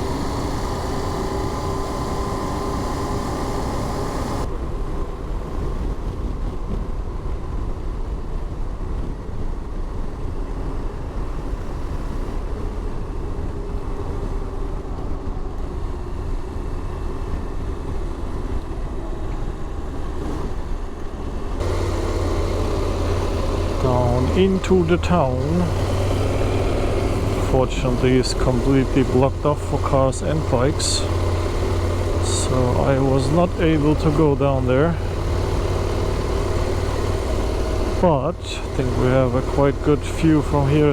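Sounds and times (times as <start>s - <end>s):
motorcycle engine rumble: 0.0s - 5.6s, 12.6s - 40.9s.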